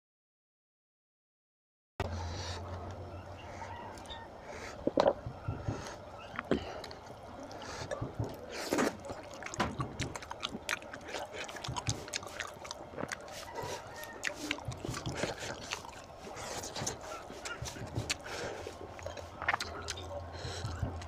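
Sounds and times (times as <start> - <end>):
wet chewing and lip-smacking: 2.0 - 21.0
meat squelching: 2.1 - 21.0.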